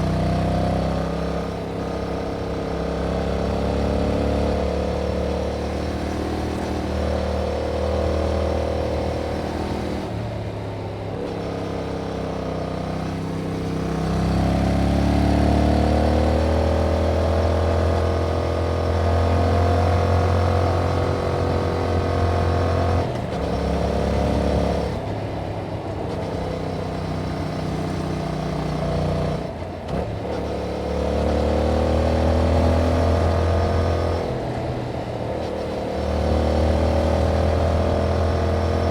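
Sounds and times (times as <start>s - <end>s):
motorcycle engine revving: 0.0s - 10.4s, 11.1s - 38.9s.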